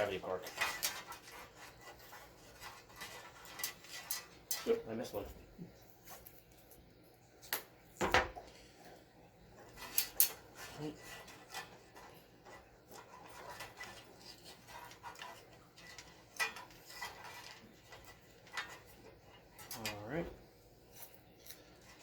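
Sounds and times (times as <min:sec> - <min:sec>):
rustling of wires: 0:00.0 - 0:22.0.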